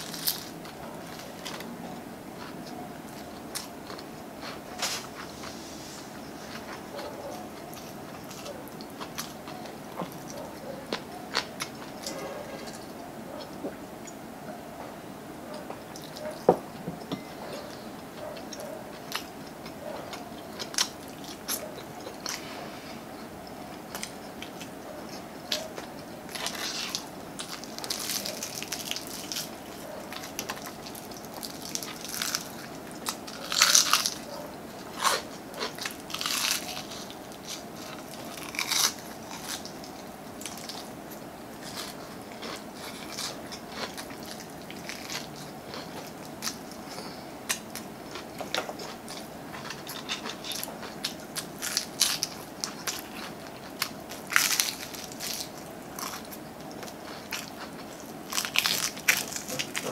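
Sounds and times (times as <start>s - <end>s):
crunching fried chicken: 0.0s - 14.1s, 17.4s - 59.9s.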